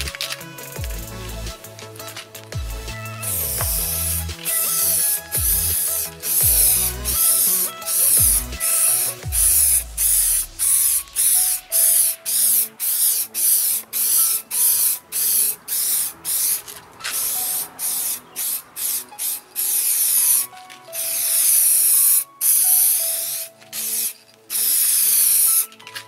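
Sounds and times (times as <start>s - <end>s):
aerosol spray can hissing: 0.0s - 25.8s
quiet background music: 0.0s - 26.0s.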